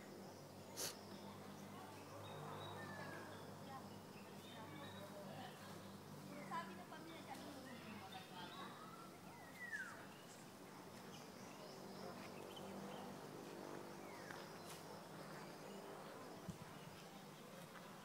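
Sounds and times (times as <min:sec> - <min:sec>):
rural outdoor ambience: 0:00.0 - 0:18.0.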